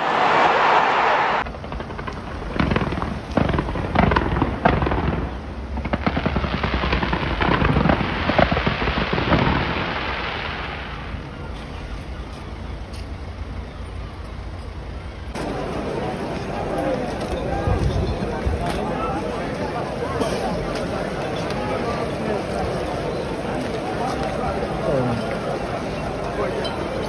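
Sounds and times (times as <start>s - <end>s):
fireworks bangs and crackling: 0.0s - 12.2s, 15.3s - 27.0s.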